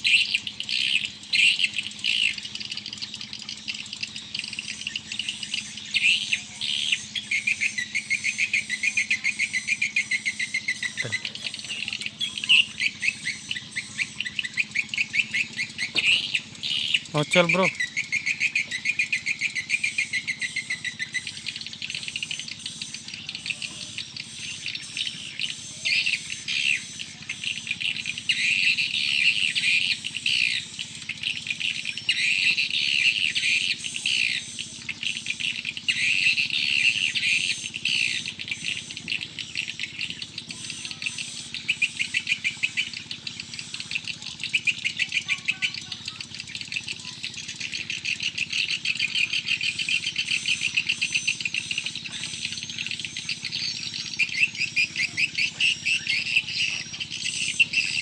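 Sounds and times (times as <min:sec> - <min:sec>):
birds chirping: 0:00.0 - 0:58.0
insects calling: 0:00.0 - 0:58.0.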